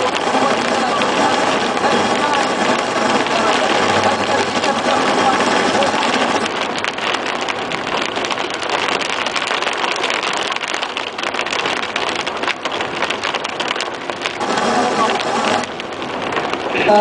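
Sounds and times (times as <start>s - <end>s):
heavy rain on car: 0.0s - 17.0s.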